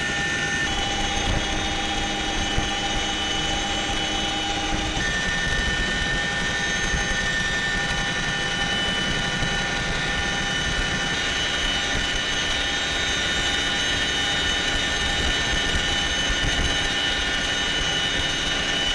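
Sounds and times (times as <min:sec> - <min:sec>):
helicopter engines and rotors: 0:00.0 - 0:18.9
high transmission whine: 0:00.0 - 0:18.9.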